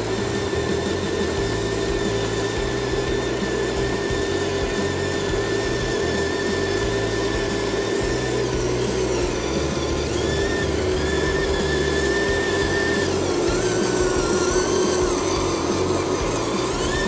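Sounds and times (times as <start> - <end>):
electric motor and gearbox whining: 0.0 - 17.0.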